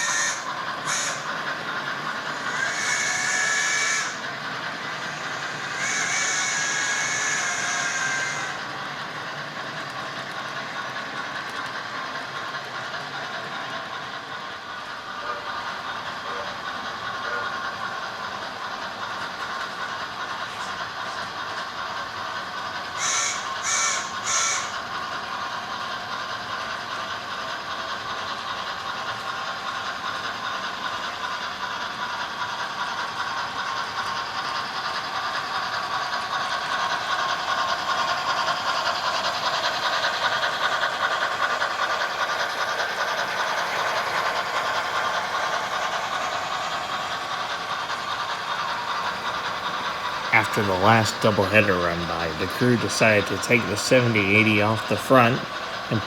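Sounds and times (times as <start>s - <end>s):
model trains running: 0.0s - 56.0s.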